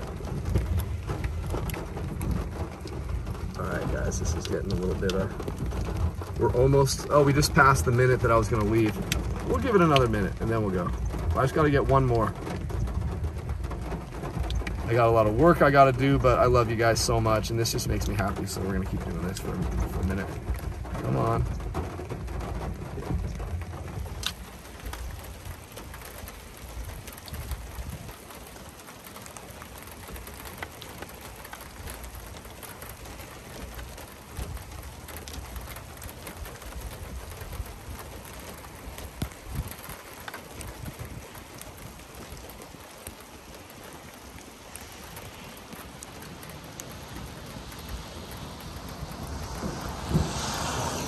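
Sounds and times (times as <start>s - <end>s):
rain falling on a car: 0.0s - 51.0s.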